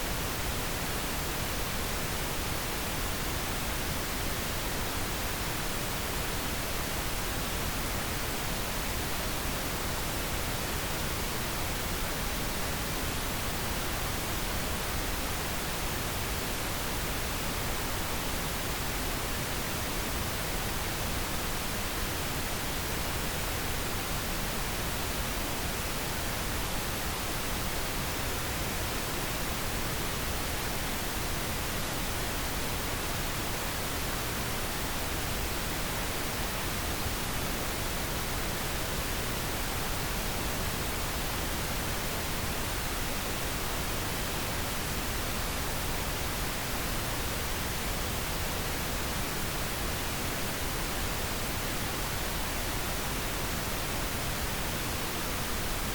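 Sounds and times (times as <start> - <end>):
pink noise hiss: 0.0 - 55.9.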